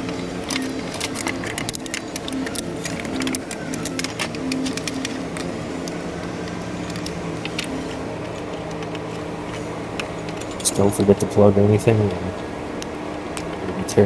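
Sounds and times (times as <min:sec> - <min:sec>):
clicks and taps of parts: 0:00.0 - 0:11.2, 0:12.0 - 0:13.9
steady low hum: 0:00.0 - 0:14.0.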